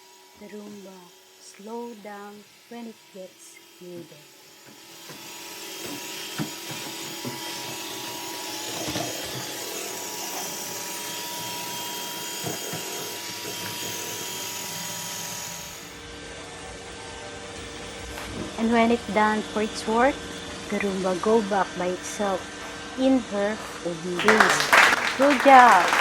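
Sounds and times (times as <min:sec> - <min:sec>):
robot vacuum whirring: 0:00.0 - 0:22.4.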